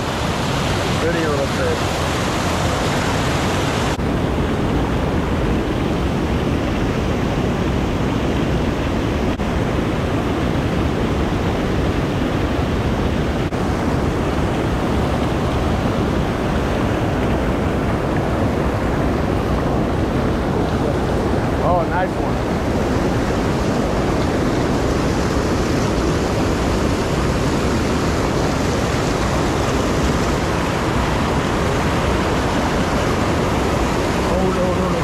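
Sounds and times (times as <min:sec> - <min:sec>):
water rushing over dam: 0:00.0 - 0:35.0.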